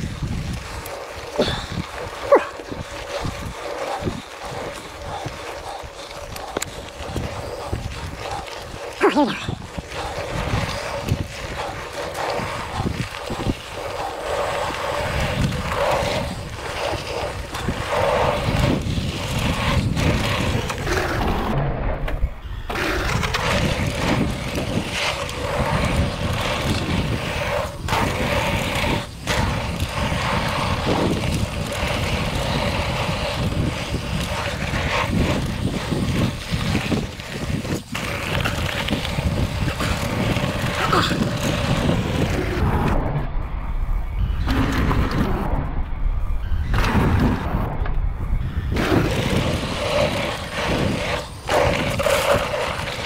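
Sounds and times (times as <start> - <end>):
bike rattling over bumps: 0.0 - 53.0
tyres on dirt: 0.0 - 53.0
wind rushing over microphone: 0.0 - 53.0.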